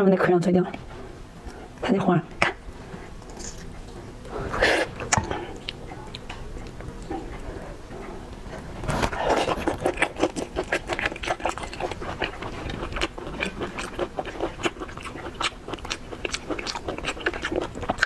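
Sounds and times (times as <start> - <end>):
chewing and wet smacking: 0.7 - 18.0.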